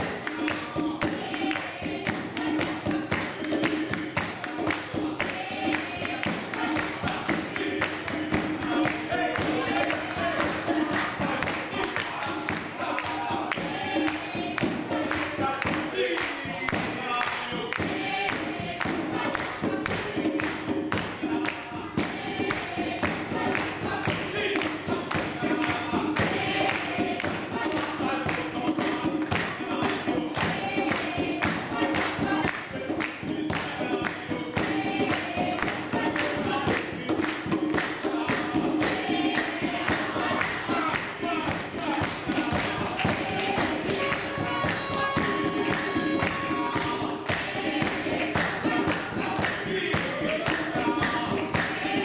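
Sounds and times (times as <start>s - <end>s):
choir singing: 0.0s - 52.0s
steady beat: 0.0s - 52.0s.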